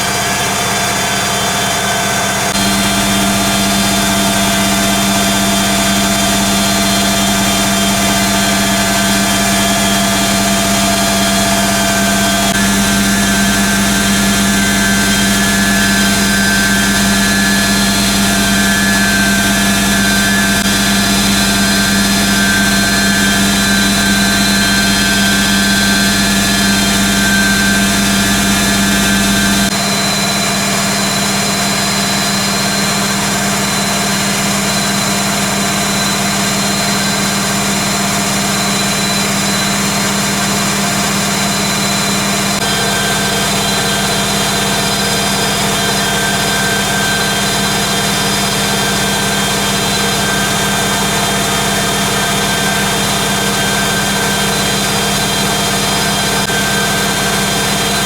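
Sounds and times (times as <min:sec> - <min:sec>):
washing machine spin whine: 0:00.0 - 0:58.0.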